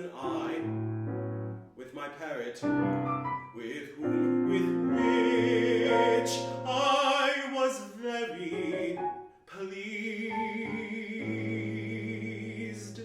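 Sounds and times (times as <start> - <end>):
baritone singing: 0.0 - 1.2, 1.8 - 13.0
piano accompaniment: 0.0 - 1.8, 2.6 - 7.5, 8.3 - 13.0.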